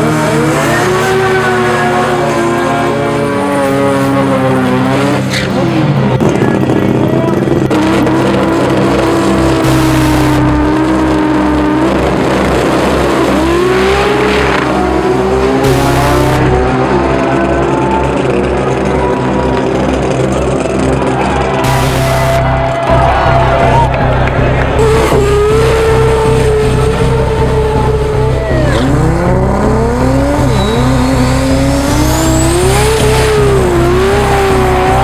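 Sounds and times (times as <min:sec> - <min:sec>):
music track: 0:00.0 - 0:35.0
race car engine revving: 0:00.0 - 0:35.0.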